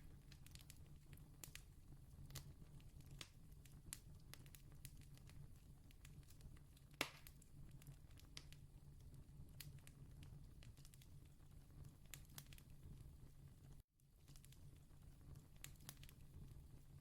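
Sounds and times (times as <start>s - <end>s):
campfire crackling: 0.0s - 13.0s, 13.6s - 16.9s.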